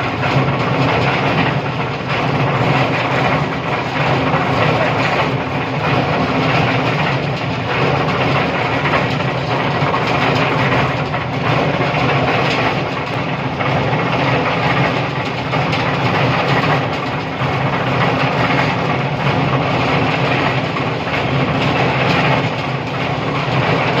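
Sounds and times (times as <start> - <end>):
construction machinery engine drone: 0.0 - 24.0.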